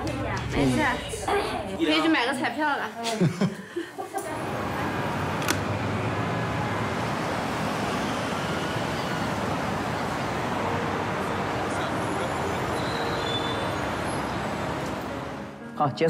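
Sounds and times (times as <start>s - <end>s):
city road traffic: 0.0s - 2.6s, 4.0s - 16.0s.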